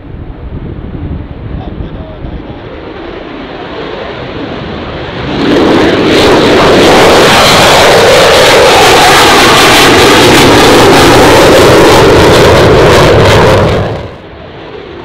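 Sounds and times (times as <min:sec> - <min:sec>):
fighter jet taking off: 0:00.0 - 0:15.0.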